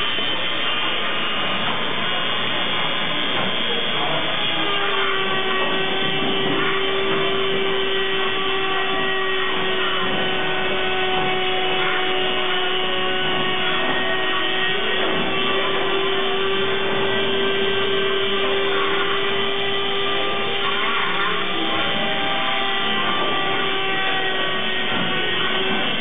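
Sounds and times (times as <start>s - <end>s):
rotary tool whine: 0.0s - 26.0s.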